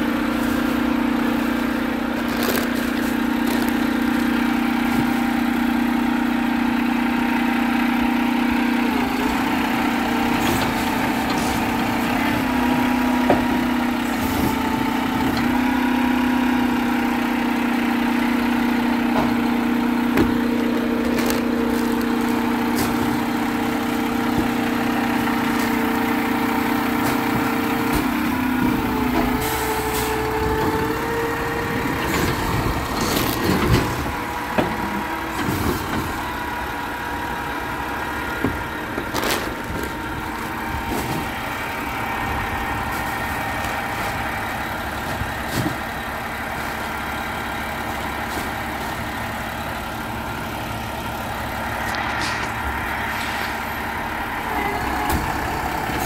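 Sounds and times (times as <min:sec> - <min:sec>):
garbage truck engine droning: 0:00.0 - 0:56.0.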